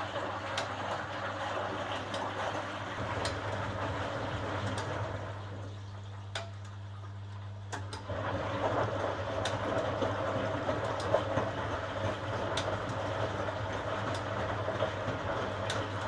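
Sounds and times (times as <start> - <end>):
washing machine hum: 0.0 - 16.0
water swishing in washing machine: 0.0 - 16.0.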